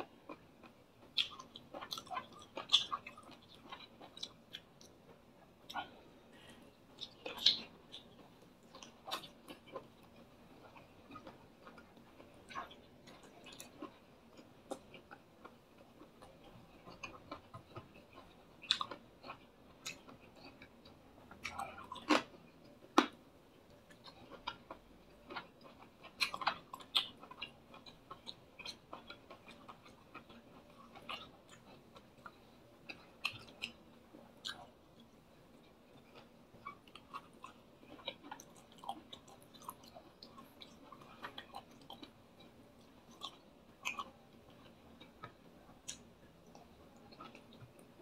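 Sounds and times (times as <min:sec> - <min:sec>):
person chewing with mouth noises: 0:00.0 - 0:48.0.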